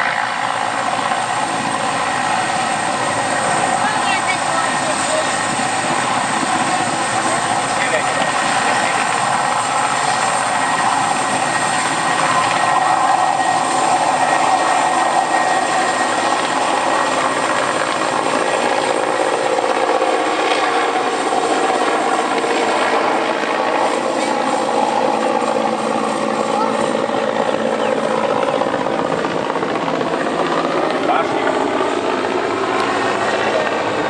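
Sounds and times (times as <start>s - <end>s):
helicopter engine and rotor: 0.0s - 34.0s.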